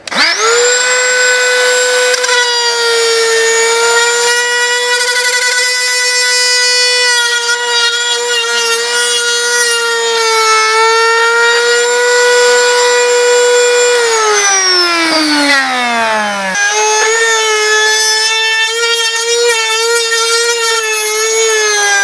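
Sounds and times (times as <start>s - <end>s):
router whining on wood: 0.0s - 22.0s.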